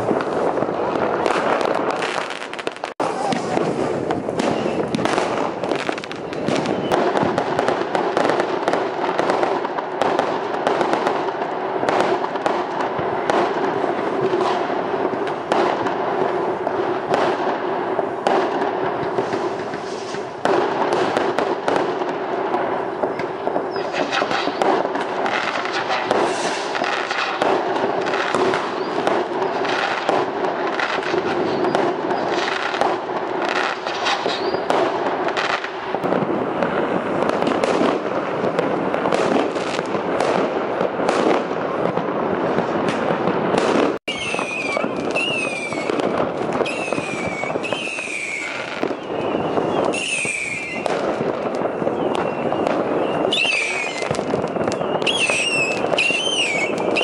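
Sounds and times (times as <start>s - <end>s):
firecrackers crackling and popping: 0.0s - 57.0s
whistling fireworks: 0.0s - 57.0s.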